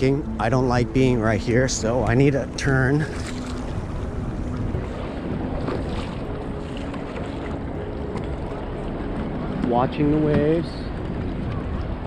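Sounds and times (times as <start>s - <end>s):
water lapping against kayak hull: 0.0s - 12.0s
wind noise on microphone: 0.0s - 12.0s.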